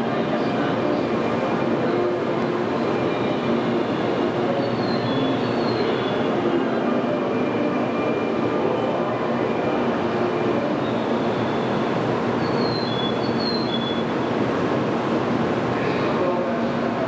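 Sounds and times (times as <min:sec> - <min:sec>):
train and platform noise: 0:00.0 - 0:17.0.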